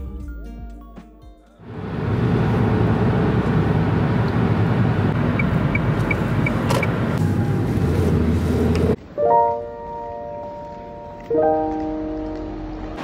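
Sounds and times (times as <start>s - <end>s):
engine and tyre road noise: 1.6s - 13.0s.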